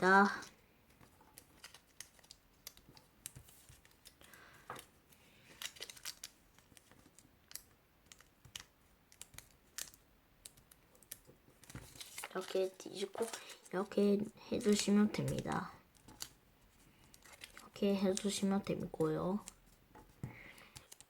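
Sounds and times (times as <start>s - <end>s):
paper crinkling while folded: 0.2s - 21.0s.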